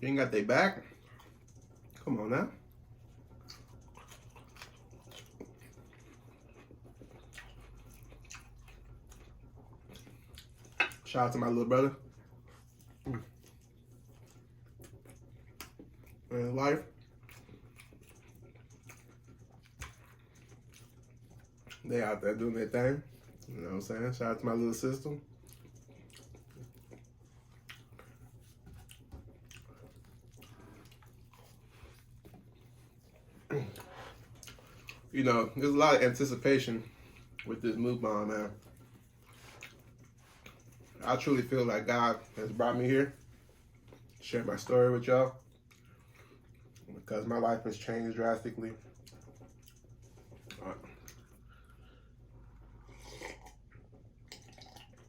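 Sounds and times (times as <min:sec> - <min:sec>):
low steady hum: 0:00.0 - 0:55.0
wet chewing sounds: 0:00.7 - 0:55.0.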